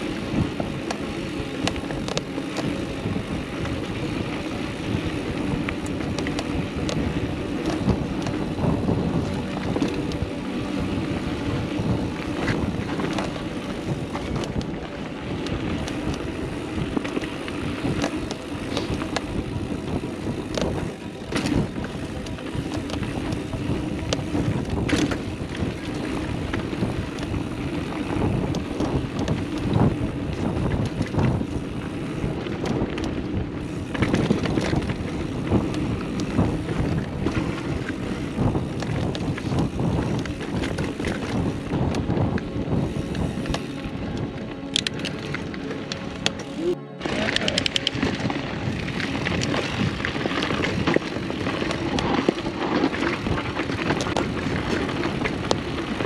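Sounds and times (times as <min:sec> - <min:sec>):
bike rattling clicks: 0:00.0 - 0:56.0
bike tyres rolling over dirt: 0:00.0 - 0:56.0
wind on microphone: 0:00.0 - 0:56.0.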